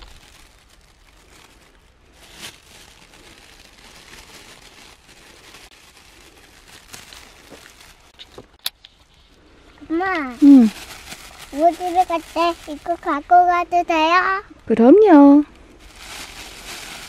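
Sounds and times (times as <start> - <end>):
rustling and crinkling: 0.0 - 13.4, 15.6 - 17.0.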